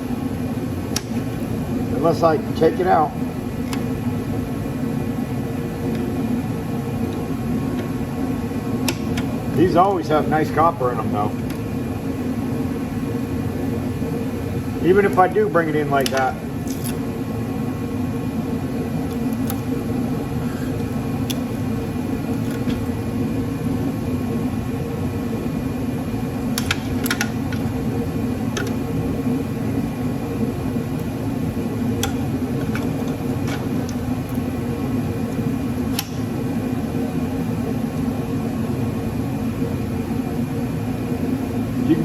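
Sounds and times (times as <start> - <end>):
heater humming: 0.0 - 42.0.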